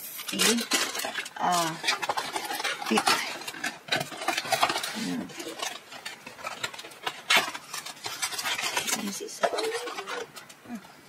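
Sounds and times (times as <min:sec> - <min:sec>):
cardboard and plastic scraping: 0:00.0 - 0:10.9.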